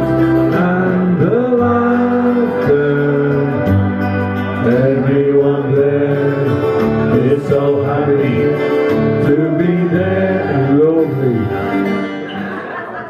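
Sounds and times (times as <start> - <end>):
steady bass: 0.0 - 12.3
acoustic guitar melody: 0.0 - 13.0.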